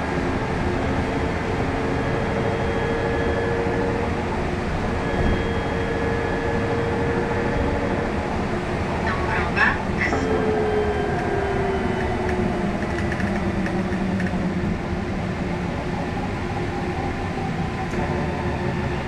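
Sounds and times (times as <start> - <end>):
tyres and road rumble: 0.0 - 19.0.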